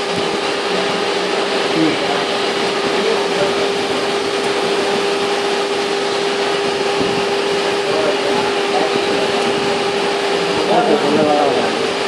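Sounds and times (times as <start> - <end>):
constant hum: 0.0 - 12.0
water rushing through pipes: 0.0 - 12.0.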